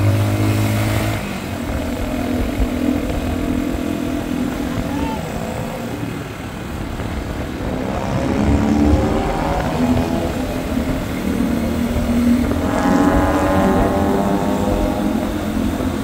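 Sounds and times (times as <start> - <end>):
motorcycle engine running: 0.0 - 16.0
other vehicle engines: 0.0 - 16.0.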